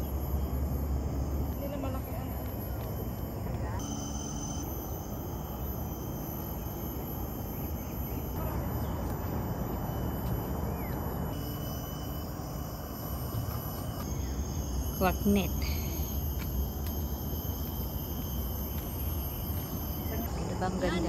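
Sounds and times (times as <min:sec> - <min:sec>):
faint chirp: 0:00.0 - 0:20.3
high insect drone: 0:00.0 - 0:21.0
low rumble of wind or traffic: 0:00.0 - 0:21.0.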